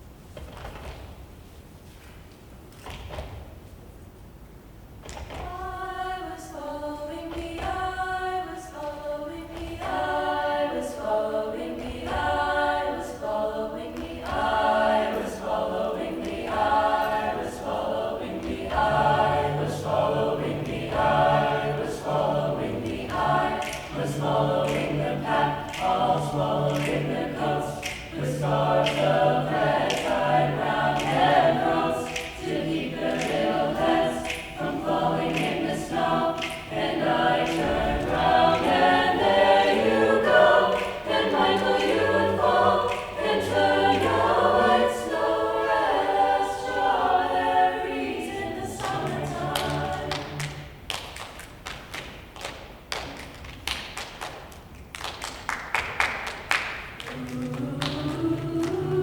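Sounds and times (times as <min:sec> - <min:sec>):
choir singing a cappella: 0:05.1 - 0:52.1, 0:55.8 - 0:59.0.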